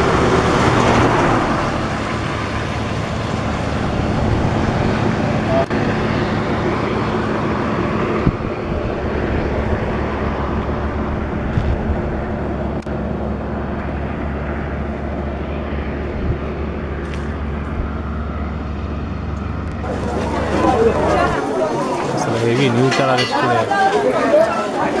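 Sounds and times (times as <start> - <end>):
highway traffic hum: 0.0 - 25.0.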